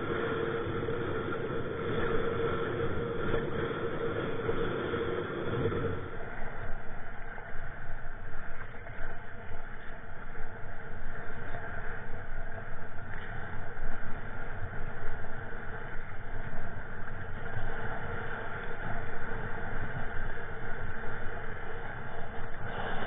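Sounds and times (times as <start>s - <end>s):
waves washing: 0.0s - 23.0s.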